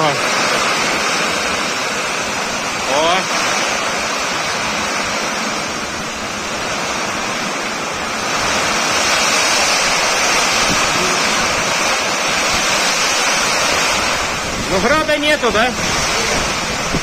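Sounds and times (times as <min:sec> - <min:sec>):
torrential rain pouring: 0:00.0 - 0:17.0
wind gusting over microphone: 0:00.0 - 0:17.0.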